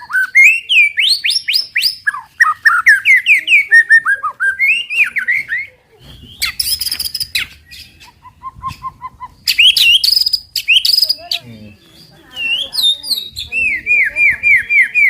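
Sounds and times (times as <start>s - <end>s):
bird singing varied whistles: 0.0s - 15.0s.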